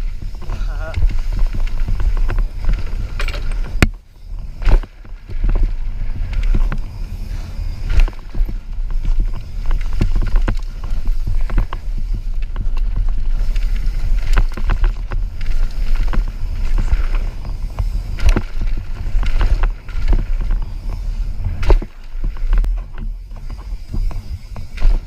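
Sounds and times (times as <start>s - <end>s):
bike rattling over rough ground: 0.0s - 25.0s.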